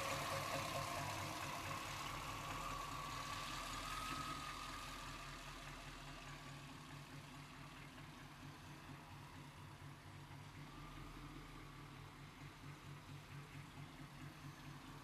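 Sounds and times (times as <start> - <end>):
engine idling rough: 0.0 - 15.0.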